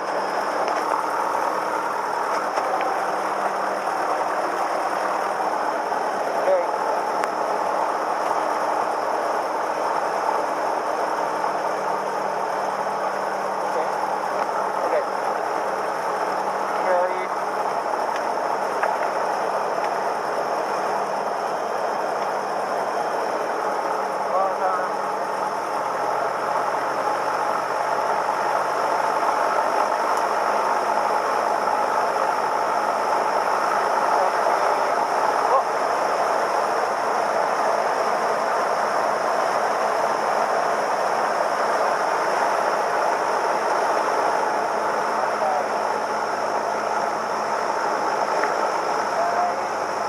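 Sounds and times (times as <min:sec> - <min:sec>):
small plane engine droning: 0:00.0 - 0:50.0.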